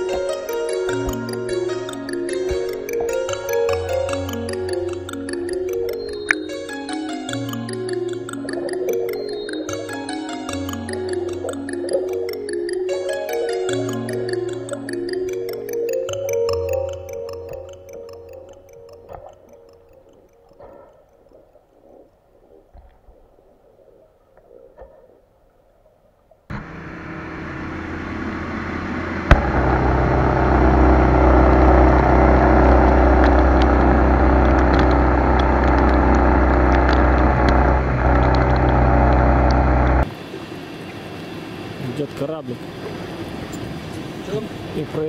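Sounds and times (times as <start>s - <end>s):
boat motor droning: 0.0s - 21.2s, 26.5s - 45.0s.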